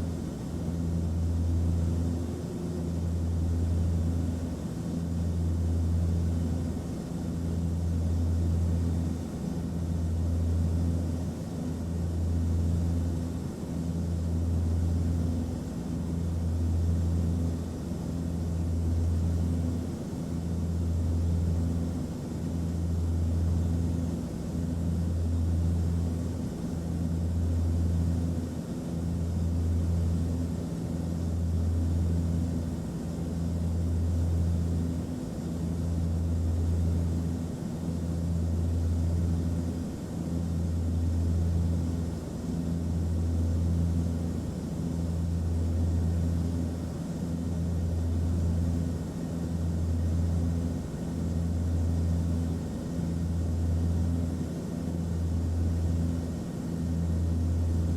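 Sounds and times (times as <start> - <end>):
airplane engine drone: 0.0 - 57.9.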